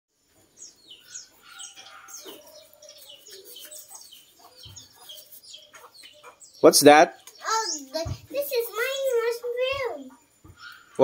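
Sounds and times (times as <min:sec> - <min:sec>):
birds chirping: 0:00.2 - 0:11.0.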